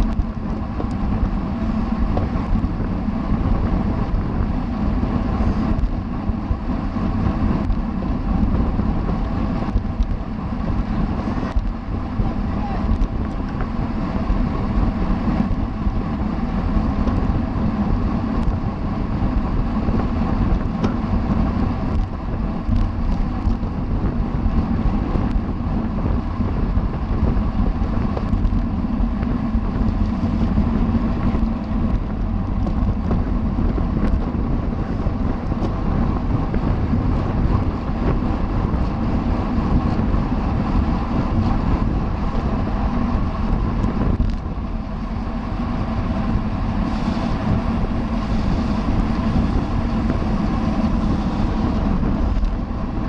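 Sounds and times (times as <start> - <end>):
road and tyre noise: 0.0 - 53.0
wind rushing over microphone: 0.0 - 53.0.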